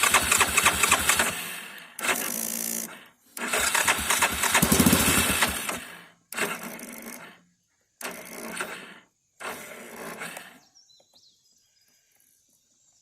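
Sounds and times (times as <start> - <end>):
engine cranking: 0.0 - 10.6.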